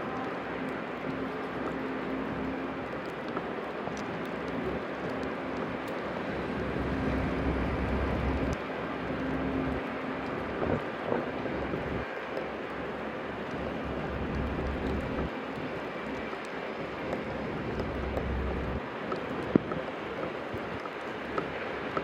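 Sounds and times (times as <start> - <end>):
faint steady hum: 0.0 - 22.0
traffic rumble: 0.0 - 22.0.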